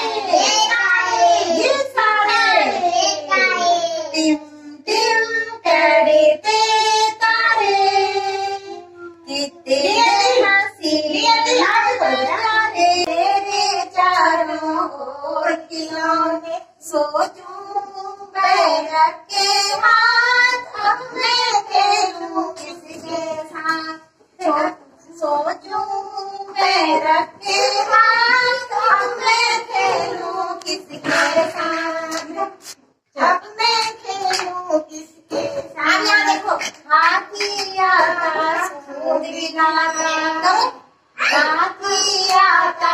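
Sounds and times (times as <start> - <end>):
children singing together: 0.0 - 32.6, 33.2 - 42.9
woman singing: 4.2 - 32.6, 33.2 - 42.9.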